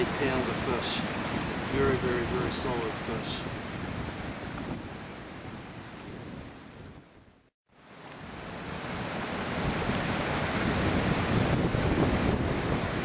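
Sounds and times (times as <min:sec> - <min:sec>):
stony river rushing: 0:00.0 - 0:13.0.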